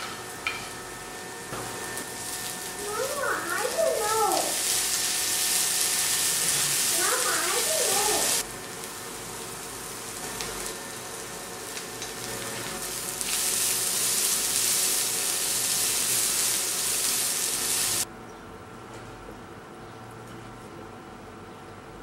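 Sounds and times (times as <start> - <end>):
food sizzling in a frying pan: 0.0 - 18.1.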